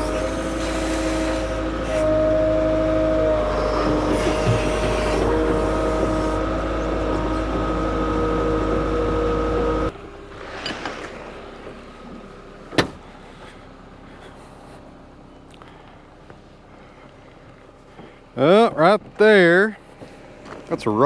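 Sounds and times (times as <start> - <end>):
loader engine with whine: 0.0 - 21.0.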